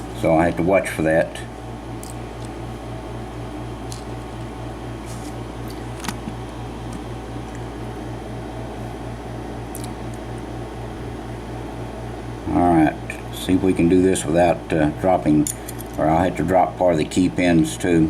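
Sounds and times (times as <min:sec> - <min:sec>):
low pulsing hum: 0:00.0 - 0:18.0.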